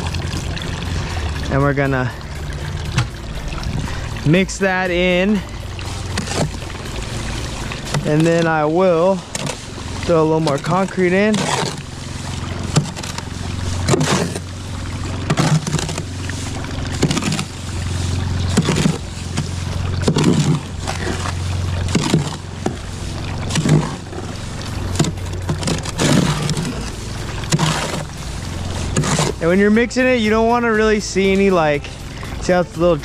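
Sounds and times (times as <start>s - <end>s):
steady low hum: 0.0s - 33.0s
hoe scraping wet concrete: 0.9s - 33.0s.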